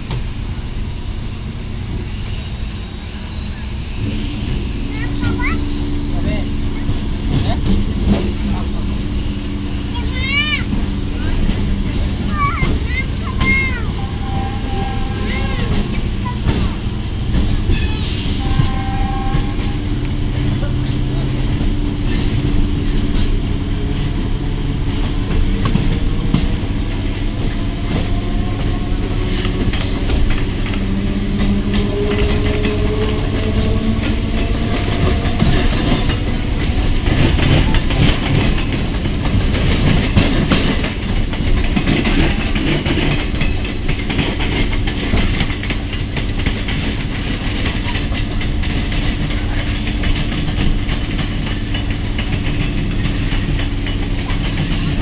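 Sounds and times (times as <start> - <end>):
clickety-clack over rail joints: 0.0 - 3.0, 4.0 - 55.0
train wheels rumbling on rails: 0.0 - 55.0.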